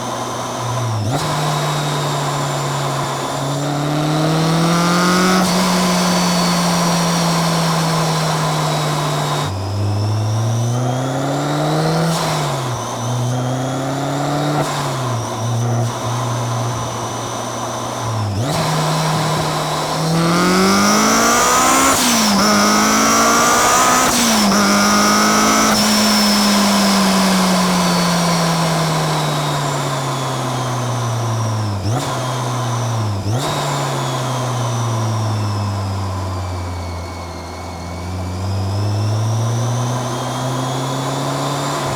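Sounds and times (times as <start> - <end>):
car engine revving: 0.0 - 41.9
supercharger whine: 0.0 - 41.9.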